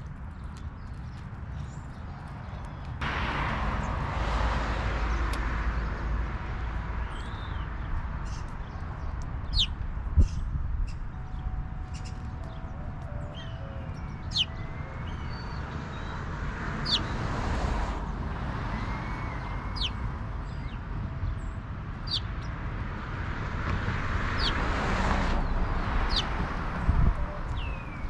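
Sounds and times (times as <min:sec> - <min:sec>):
birds chirping: 0:00.0 - 0:03.0, 0:03.6 - 0:17.5, 0:18.7 - 0:22.7, 0:24.2 - 0:28.0
low traffic rumble: 0:00.0 - 0:28.0.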